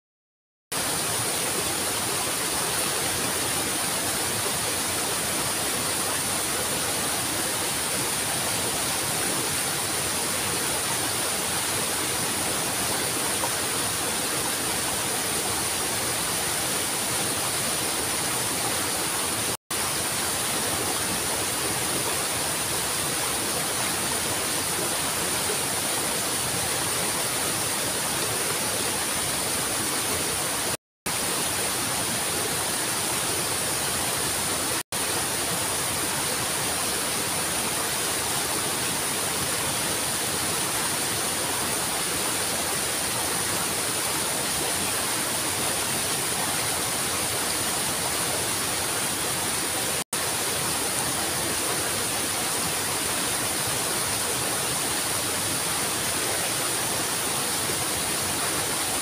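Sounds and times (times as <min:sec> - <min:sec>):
waterfall rushing over rocks: 0:00.7 - 0:59.0.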